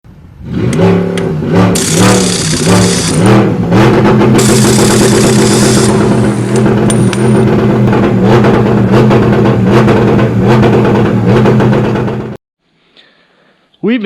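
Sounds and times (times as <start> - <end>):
car engine running loudly: 0.2 - 12.4.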